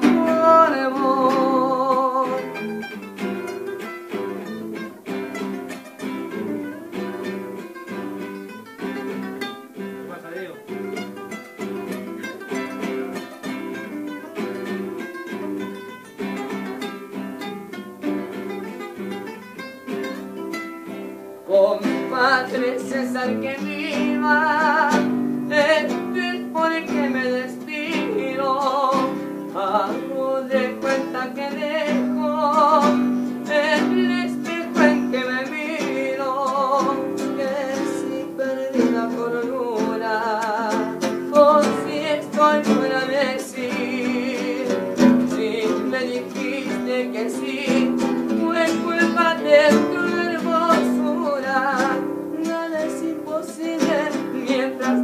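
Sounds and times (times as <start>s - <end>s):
classical guitars playing: 0.0s - 55.0s
man singing with vibrato: 0.0s - 55.0s.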